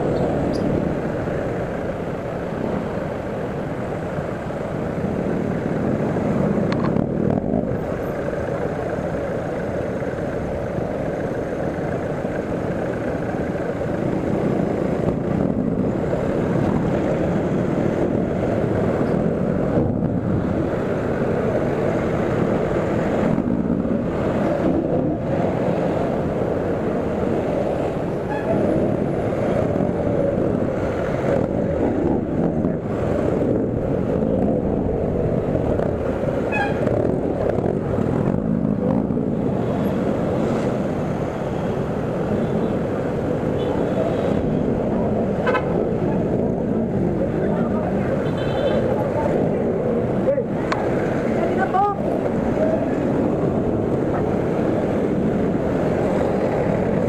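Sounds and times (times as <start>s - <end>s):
traffic engines: 0.0s - 57.0s
wind rush on microphone: 0.0s - 57.0s.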